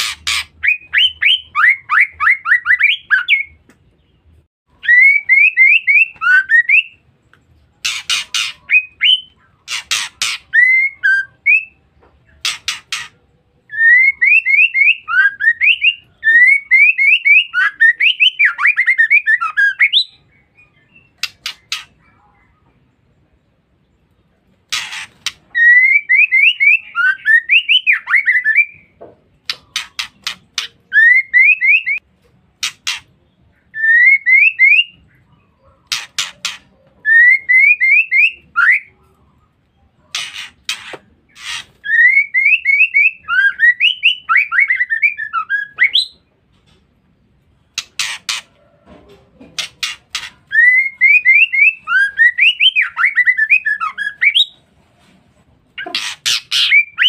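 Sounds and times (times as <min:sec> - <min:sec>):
bird harsh rasping notes: 0:00.0 - 0:07.1, 0:07.7 - 0:22.4, 0:24.6 - 0:39.2, 0:40.0 - 0:46.3, 0:47.6 - 0:48.8, 0:49.5 - 0:54.7, 0:55.7 - 0:57.0.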